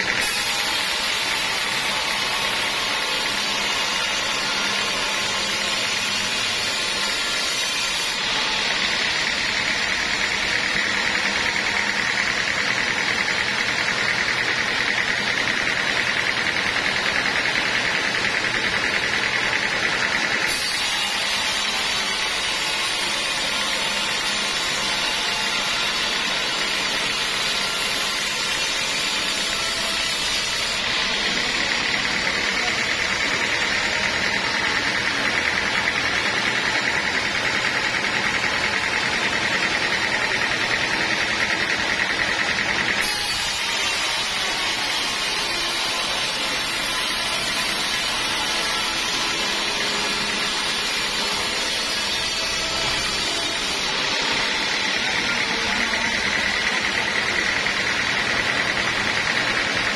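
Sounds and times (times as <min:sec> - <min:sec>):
sawmill saw cutting wood: 0:00.0 - 0:59.9.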